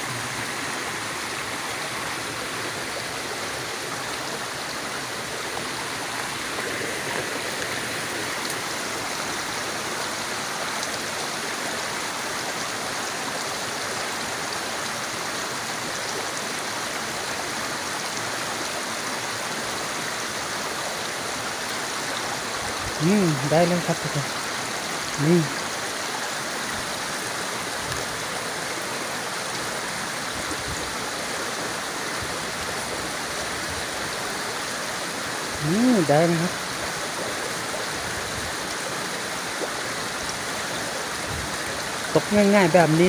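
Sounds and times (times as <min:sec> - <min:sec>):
stream running over stones: 0:00.0 - 0:43.0.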